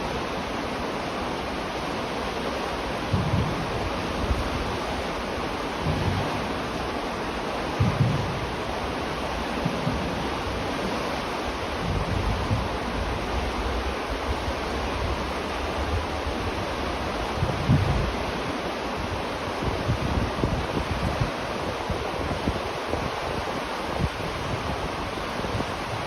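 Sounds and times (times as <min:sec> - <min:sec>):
river water rushing: 0:00.0 - 0:26.0
wind rumbling on microphone: 0:00.0 - 0:26.0.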